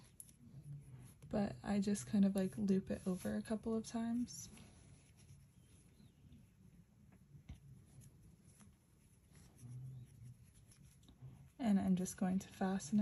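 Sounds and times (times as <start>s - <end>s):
yarn rustling: 0.0s - 13.0s.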